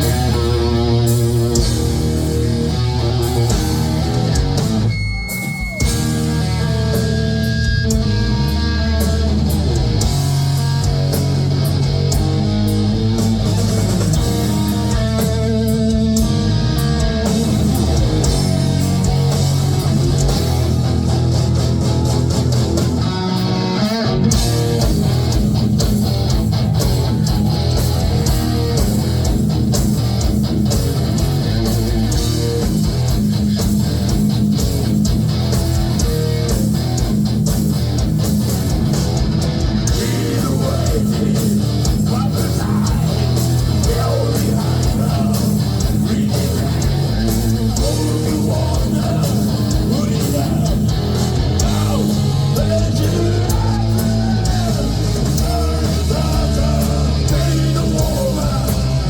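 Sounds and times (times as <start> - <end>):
bass: 0.0 - 59.0
distorted electric guitars: 0.0 - 59.0
drums: 0.0 - 59.0.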